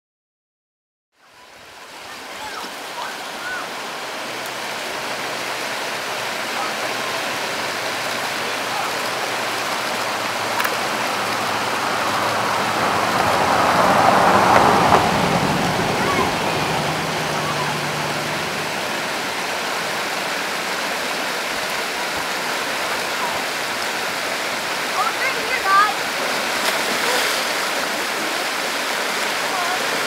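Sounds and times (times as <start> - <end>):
water rushing over rocks: 1.2 - 30.0.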